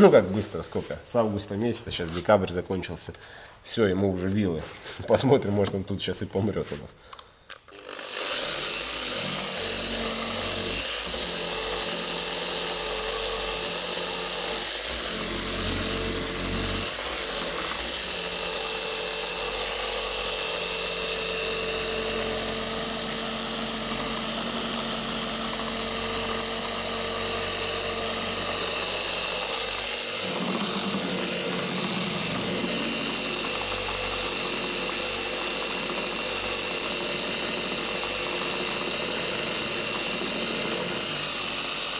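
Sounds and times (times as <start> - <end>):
electric polisher running: 7.7 - 41.9.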